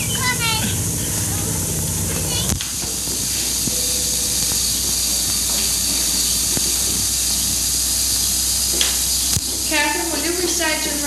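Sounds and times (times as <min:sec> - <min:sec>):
film soundtrack hiss: 0:00.0 - 0:11.0
low hum: 0:00.0 - 0:11.0.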